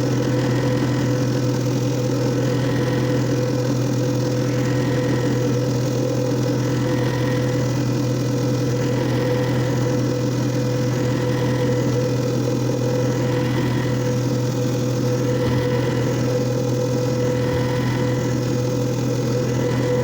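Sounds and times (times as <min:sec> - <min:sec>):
machine motor hum: 0:00.0 - 0:20.0.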